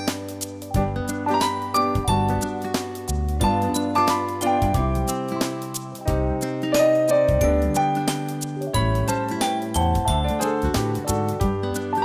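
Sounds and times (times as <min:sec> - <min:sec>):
upbeat background music: 0:00.0 - 0:12.0.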